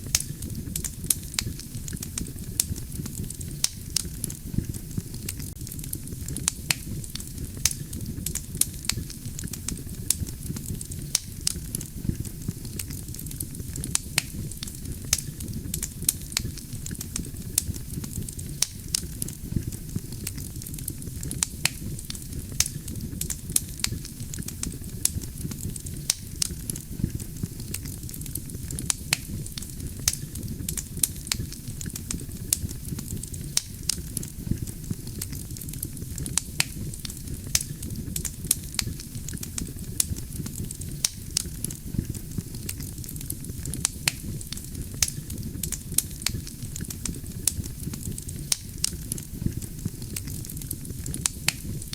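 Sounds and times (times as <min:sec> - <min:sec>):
campfire flames rumbling: 0:00.0 - 0:51.9
crackles and pops from logs: 0:00.0 - 0:51.9.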